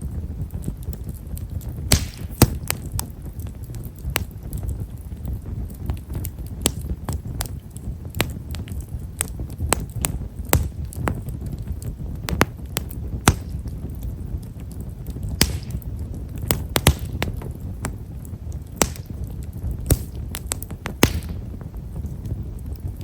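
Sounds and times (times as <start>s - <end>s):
firewood crackling and popping: 0.0s - 23.0s
low rumble of flame: 0.0s - 23.0s.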